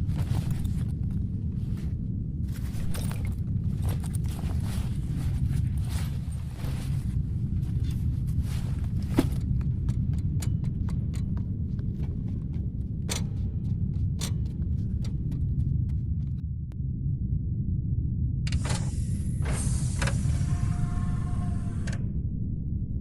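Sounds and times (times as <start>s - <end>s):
spaceship interior low hum: 0.0s - 23.0s.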